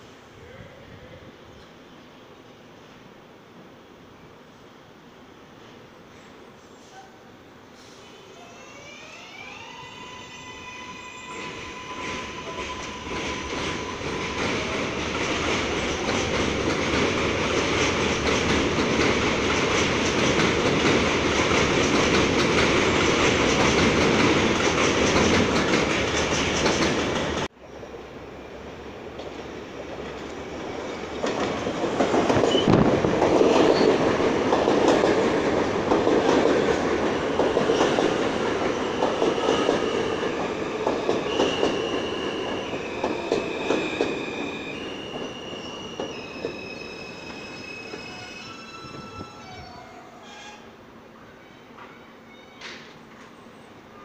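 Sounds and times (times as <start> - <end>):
subway train rumbling past: 0.0 - 54.0.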